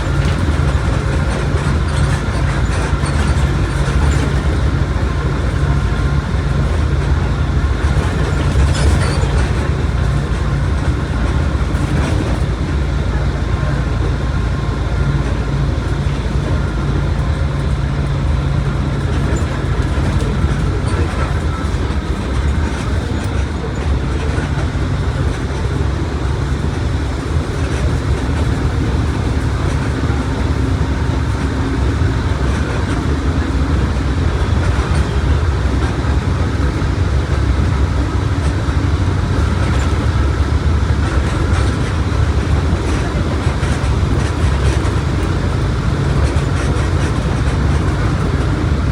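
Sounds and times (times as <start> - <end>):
bus engine drone: 0.0 - 48.9
road noise: 0.0 - 48.9.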